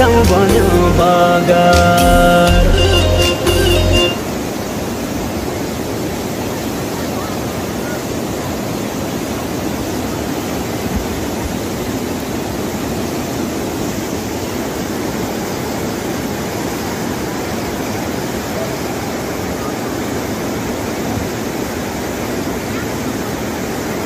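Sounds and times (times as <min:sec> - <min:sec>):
flooded river rushing: 0:00.0 - 0:24.0.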